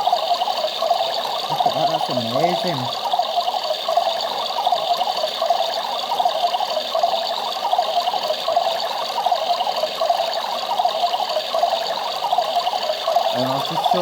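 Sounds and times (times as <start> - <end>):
water churning: 0.0 - 14.0.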